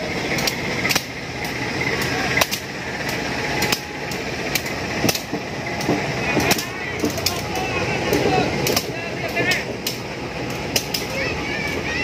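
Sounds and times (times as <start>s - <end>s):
diesel locomotive running: 0.0s - 12.0s
sharp clicks and knocks: 0.3s - 11.9s.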